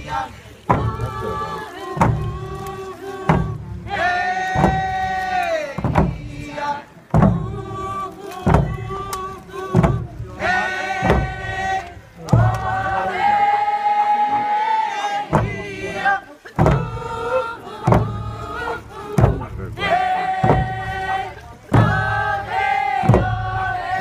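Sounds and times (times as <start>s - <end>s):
frame drum beats: 0.0s - 14.6s, 15.2s - 24.0s
people chanting in unison: 0.0s - 24.0s.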